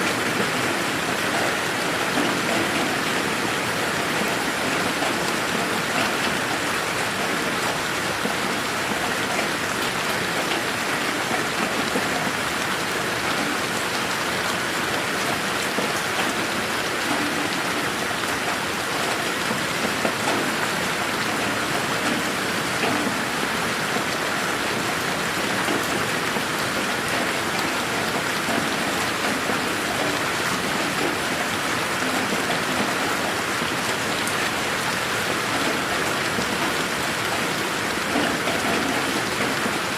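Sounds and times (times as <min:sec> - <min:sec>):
raindrops pattering: 0:00.0 - 0:39.9
steady rain hiss: 0:00.0 - 0:39.9.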